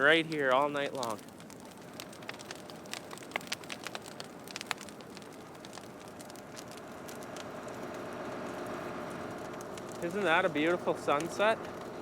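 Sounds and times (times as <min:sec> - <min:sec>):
brush fire crackling and popping: 0:00.0 - 0:12.0
fire hissing: 0:00.0 - 0:12.0.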